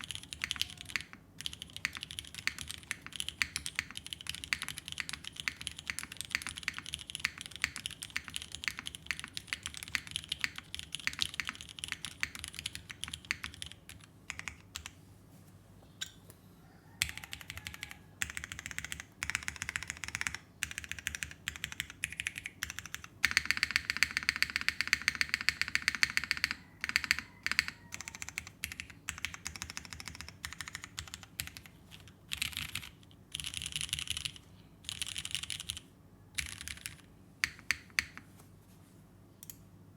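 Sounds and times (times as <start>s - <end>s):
typing on mechanical keyboard: 0.0s - 15.0s, 17.0s - 38.2s.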